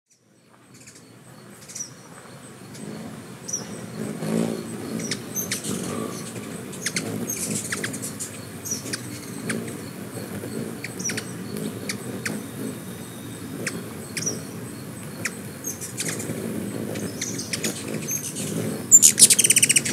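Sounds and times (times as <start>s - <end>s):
hummingbird wings humming: 0.2s - 19.9s.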